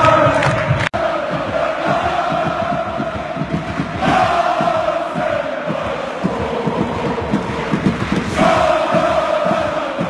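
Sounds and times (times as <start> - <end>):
crowd chanting in unison: 0.0 - 10.0
crowd din: 0.0 - 10.0.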